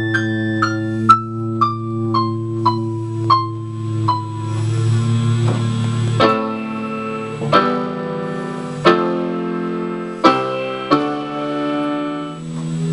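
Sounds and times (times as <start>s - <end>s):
electric guitar chords: 0.0s - 12.9s
electric keyboard chords: 0.0s - 12.9s.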